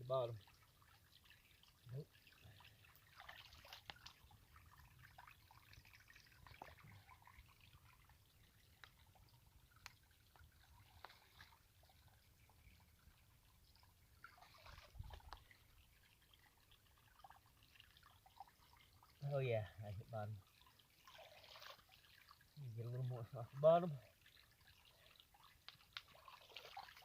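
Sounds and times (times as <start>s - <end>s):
faint trickling water: 0.0s - 27.0s.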